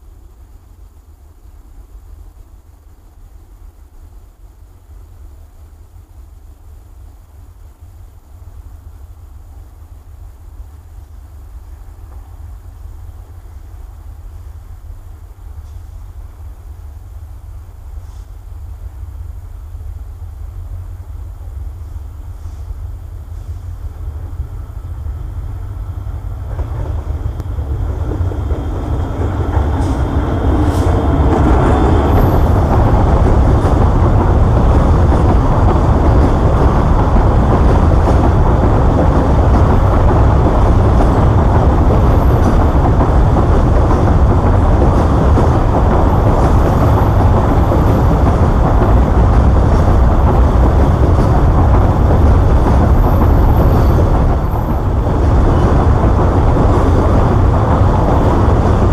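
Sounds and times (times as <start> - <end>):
diesel locomotive approaching: 0.0 - 58.9
train wheels rumbling on rails: 0.0 - 58.9.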